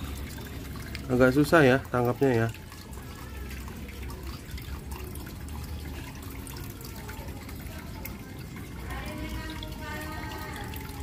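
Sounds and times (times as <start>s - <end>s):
trickle of running water: 0.0s - 11.0s
water drips and splashes: 0.0s - 11.0s.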